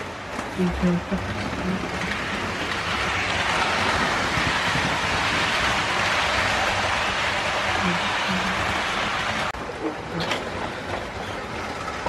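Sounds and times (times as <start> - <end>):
model train running past: 0.0 - 12.0.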